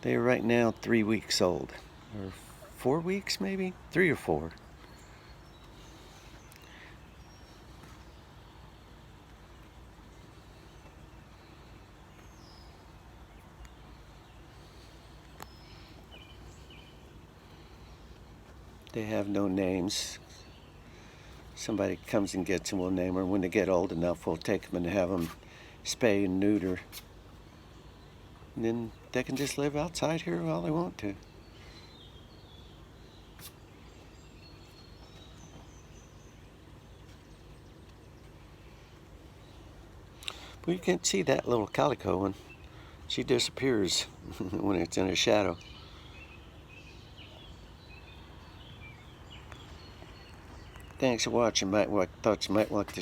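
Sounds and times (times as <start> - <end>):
distant bird chirps: 0.0 - 53.0.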